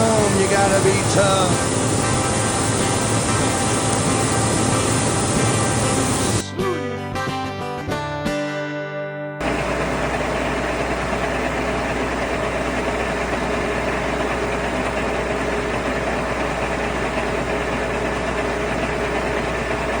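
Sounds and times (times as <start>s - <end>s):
heavy farm engine droning: 0.0s - 6.5s, 9.4s - 20.0s.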